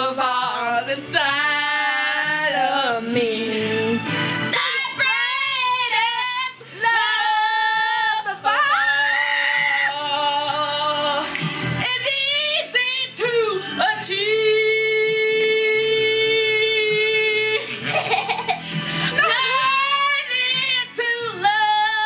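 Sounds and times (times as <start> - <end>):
music: 0.0 - 22.0.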